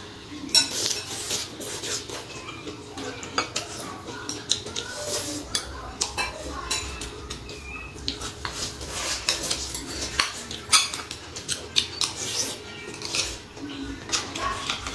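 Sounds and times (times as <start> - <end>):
chewing leafy greens: 0.5 - 14.9.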